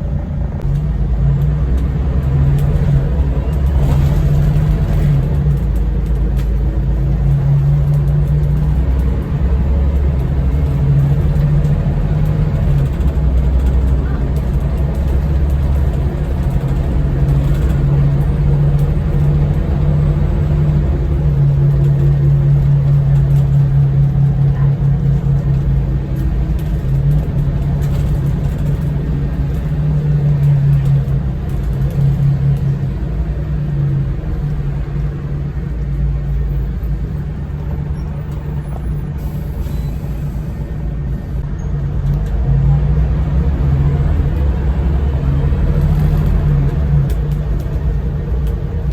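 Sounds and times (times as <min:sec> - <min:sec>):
bus diesel engine droning: 0:00.0 - 0:48.9.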